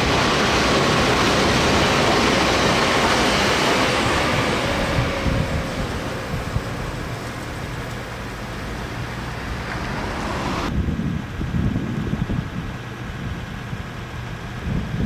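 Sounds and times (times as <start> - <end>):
passing electric train rumble: 0.0 - 15.0
wind buffeting microphone: 0.0 - 15.0.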